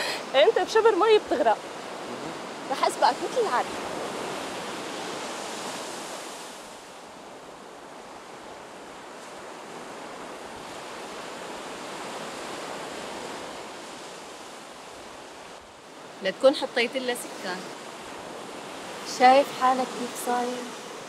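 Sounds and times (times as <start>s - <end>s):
waves washing onto a beach: 0.0s - 21.0s.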